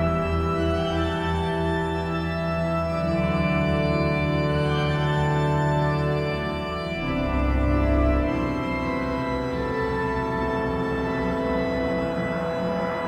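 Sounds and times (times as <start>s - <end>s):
sustained organ chords: 0.0s - 13.0s.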